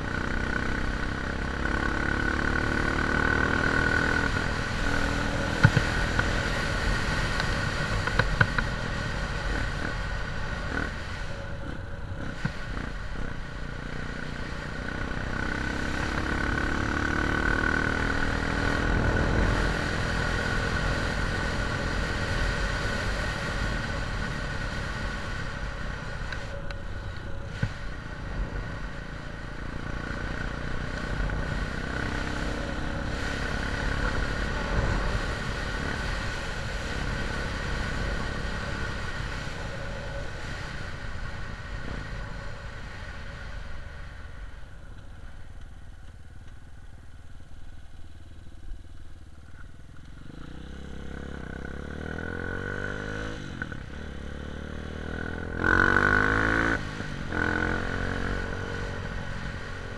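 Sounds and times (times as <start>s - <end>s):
small vehicle engine running: 0.0s - 59.9s.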